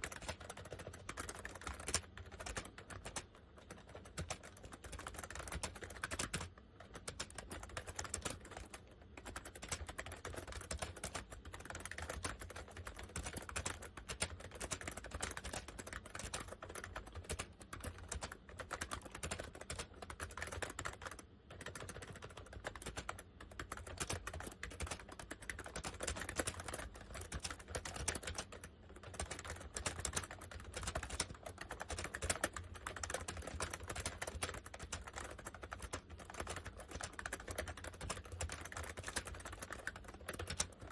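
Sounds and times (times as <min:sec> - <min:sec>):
keyboard typing clicks: 0:00.0 - 0:40.9.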